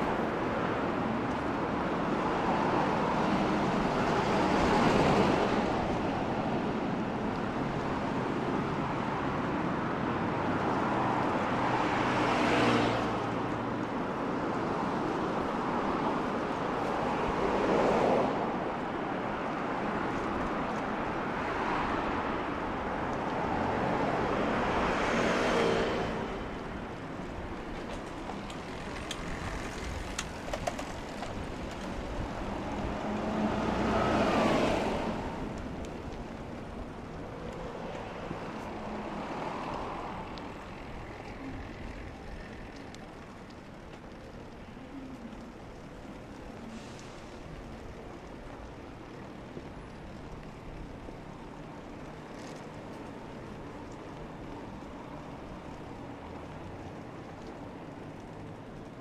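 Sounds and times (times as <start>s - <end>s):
cars passing on wet asphalt: 0.0s - 59.0s.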